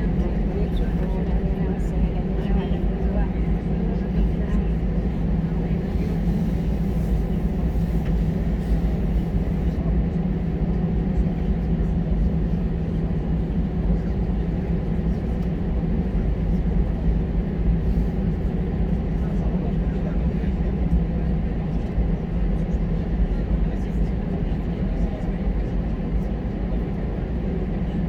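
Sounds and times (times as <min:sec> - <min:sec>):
airliner cabin engine drone: 0:00.0 - 0:28.0.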